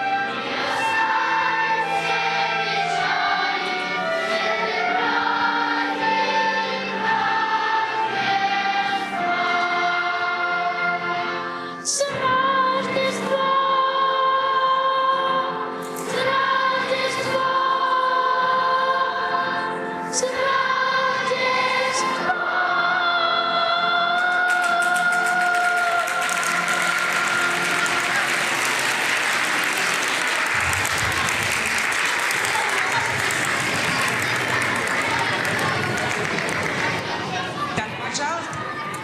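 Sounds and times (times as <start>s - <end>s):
choir singing: 0.0s - 37.8s.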